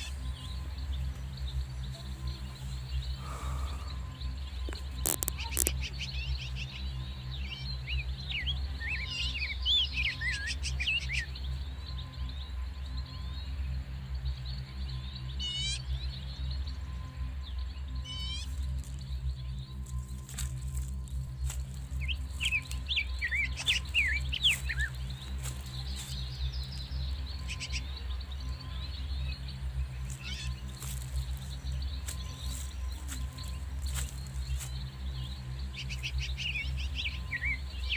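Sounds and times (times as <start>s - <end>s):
low steady hum: 0.0s - 37.9s
small birds chirping: 0.0s - 37.9s
steady low rumble: 0.0s - 37.9s.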